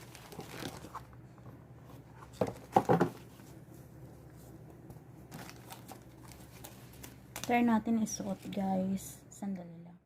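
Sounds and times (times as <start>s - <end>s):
rustling of packaging: 0.0s - 4.6s, 5.2s - 8.8s.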